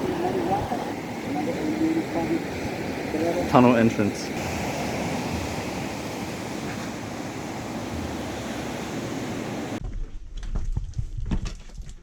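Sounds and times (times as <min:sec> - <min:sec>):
surf rushing: 0:00.0 - 0:09.8.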